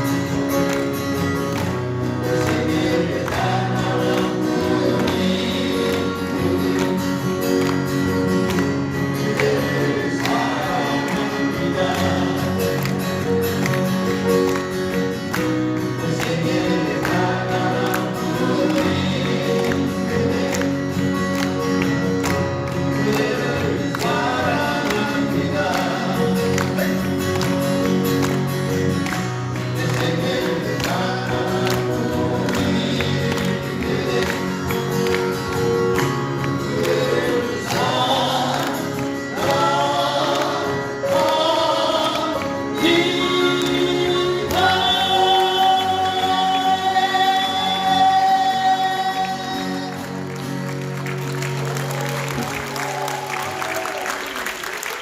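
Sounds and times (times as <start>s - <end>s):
acoustic guitar: 0.0s - 55.0s
male vocal quartet singing in harmony: 0.1s - 50.4s.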